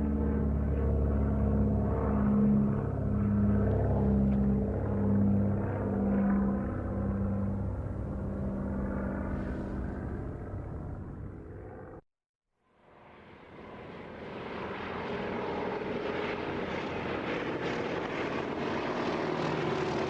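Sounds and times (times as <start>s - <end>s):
propeller airplane drone: 0.0s - 12.0s, 12.6s - 20.0s.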